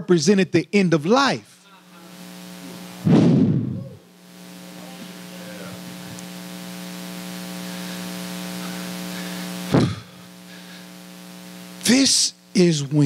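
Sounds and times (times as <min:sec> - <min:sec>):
electrical mains hum: 0:00.0 - 0:13.0
static hiss: 0:00.0 - 0:13.0.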